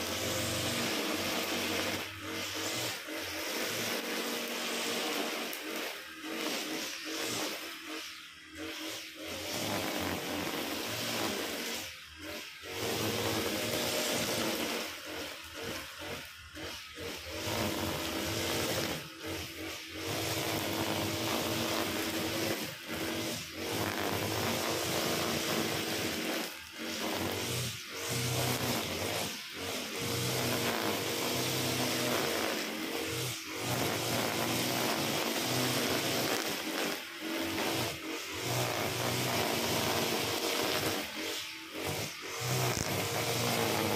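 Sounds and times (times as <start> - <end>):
brush cutter engine running: 0.0 - 8.0, 8.6 - 43.9
cutting through tall grass: 0.0 - 43.9.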